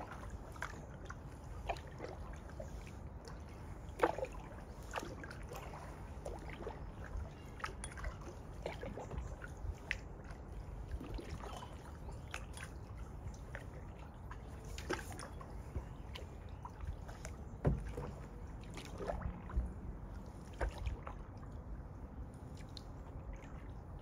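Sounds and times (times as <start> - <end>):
kayak paddle splashing water: 0.0 - 21.6
water dripping from paddle: 0.0 - 21.6.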